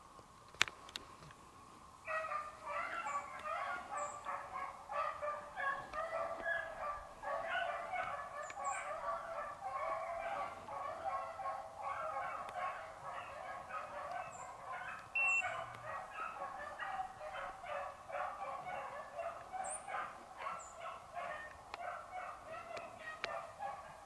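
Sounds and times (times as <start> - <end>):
pack of hounds baying: 2.1 - 24.0.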